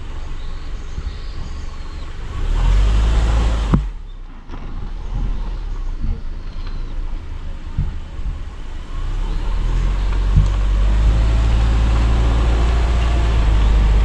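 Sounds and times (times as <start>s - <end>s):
loud rush of road noise: 0.0s - 14.0s
tyre and engine rumble: 0.0s - 14.0s.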